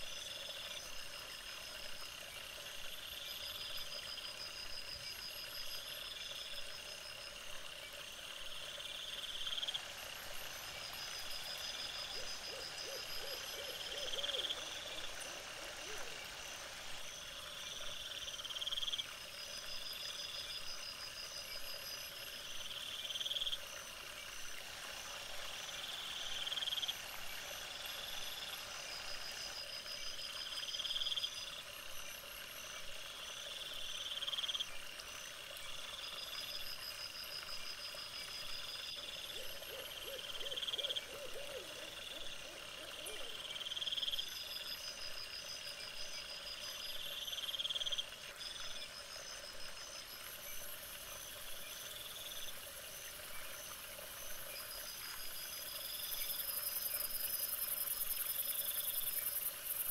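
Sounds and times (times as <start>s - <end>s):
frogs calling in pulsed trills: 0.0s - 59.9s
faint higher frog trills: 2.7s - 34.8s, 35.6s - 59.9s.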